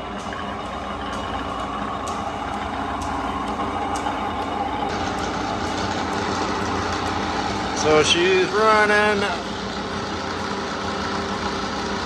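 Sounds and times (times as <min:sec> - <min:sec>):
drill press motor humming: 0:00.0 - 0:12.0.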